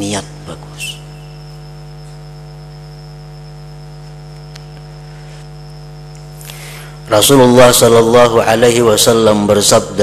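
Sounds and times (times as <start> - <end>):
electrical mains hum: 0.0 - 10.0
faint high-pitched whine: 0.0 - 10.0.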